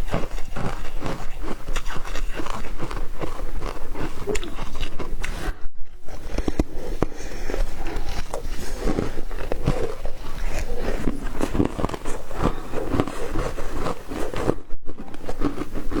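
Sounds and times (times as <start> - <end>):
foam ice crunching while chewed: 0.0 - 16.0.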